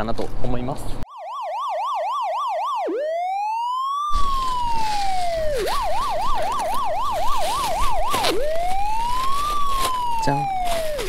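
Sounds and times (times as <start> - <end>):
outdoor background noise: 0.0 - 1.1, 2.4 - 11.0
police siren wailing and yelping: 1.1 - 11.0.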